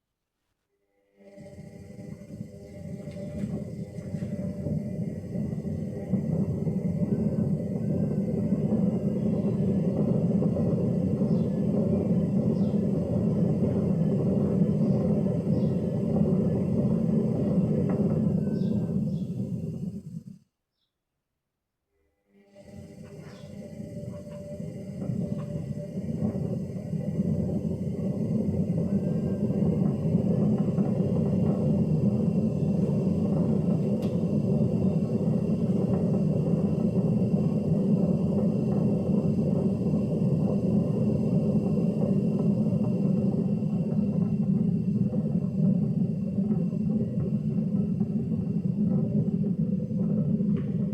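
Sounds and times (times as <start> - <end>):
washing machine rumbling: 1.3 - 20.4, 22.6 - 50.9.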